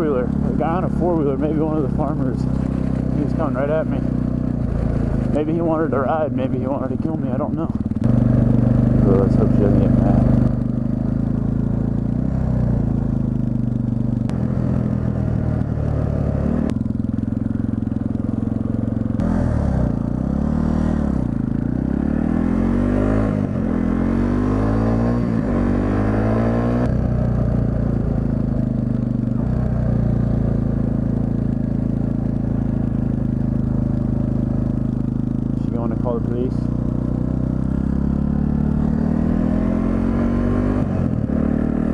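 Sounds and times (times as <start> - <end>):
dirt bike engine accelerating: 0.0 - 41.9.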